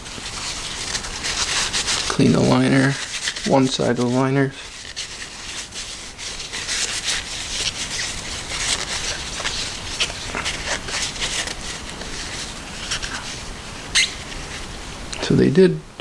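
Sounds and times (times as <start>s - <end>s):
paper towel wiping: 0.0s - 15.4s.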